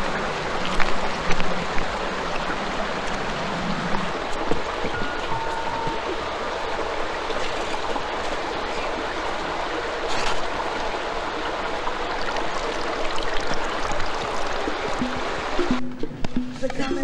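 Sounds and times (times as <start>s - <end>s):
stream rushing over rocks: 0.0s - 15.8s
water splash: 0.0s - 15.9s.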